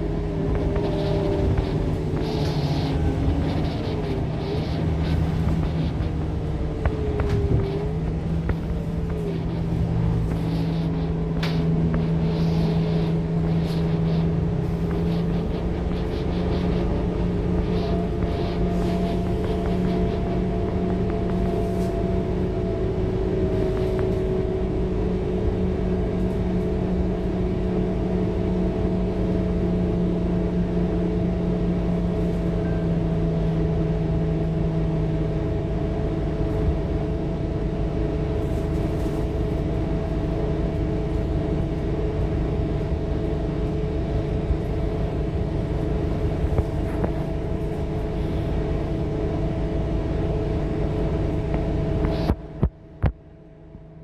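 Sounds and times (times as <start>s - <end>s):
bus diesel engine droning: 0.0s - 54.0s
road rumble: 0.0s - 54.0s.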